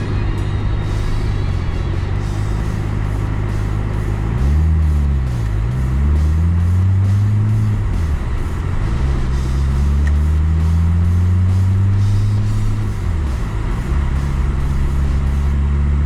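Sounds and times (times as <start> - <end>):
car engine accelerating: 0.0 - 16.0
road noise: 0.0 - 16.0.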